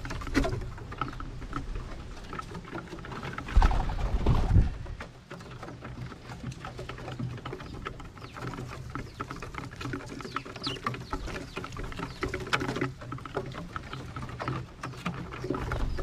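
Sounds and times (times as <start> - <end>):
doves pecking seed: 0.0 - 16.0.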